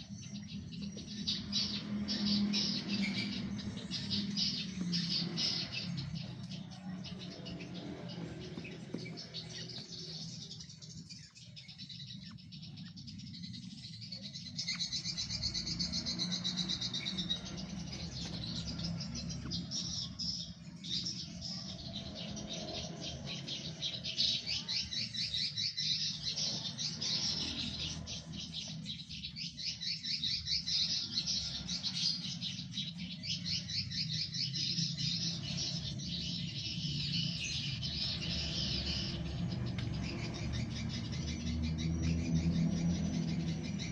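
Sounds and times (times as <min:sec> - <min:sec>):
baby birds chirping: 0:00.0 - 0:43.9.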